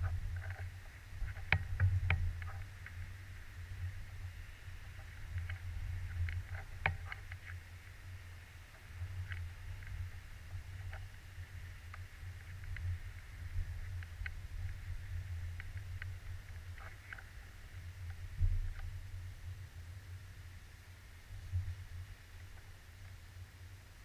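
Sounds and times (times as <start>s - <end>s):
faint clicks and ticks: 0.0s - 19.1s, 21.4s - 24.0s
wind buffeting microphone: 0.0s - 20.3s.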